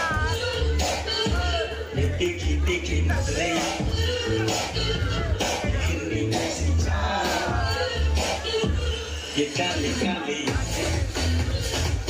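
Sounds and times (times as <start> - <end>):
crowd voices: 0.0 - 12.0
loud dance music with singing: 0.0 - 12.0.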